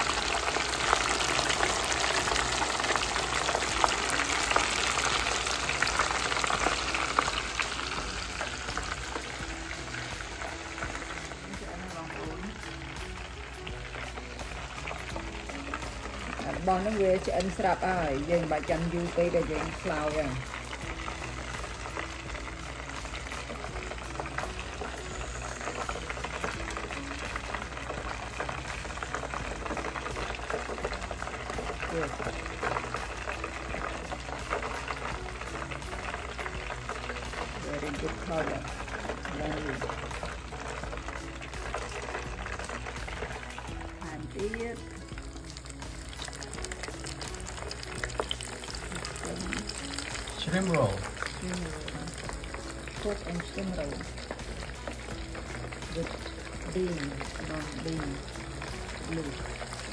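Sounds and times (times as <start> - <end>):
food frying with crackles: 0.0 - 59.9.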